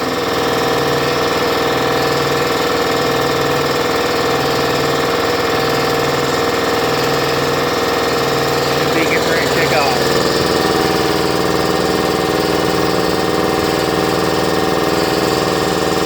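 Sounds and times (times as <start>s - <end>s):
air compressor running: 0.0s - 16.0s.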